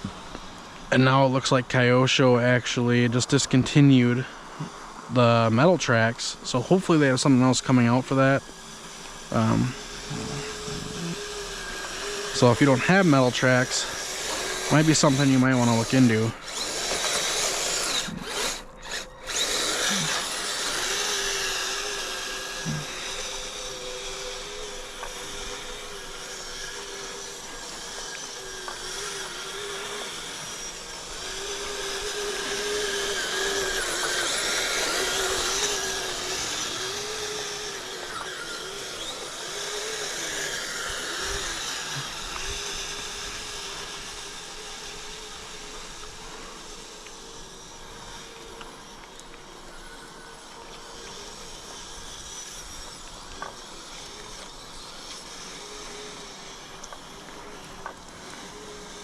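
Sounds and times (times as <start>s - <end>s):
electric motors whining: 0.0s - 59.0s.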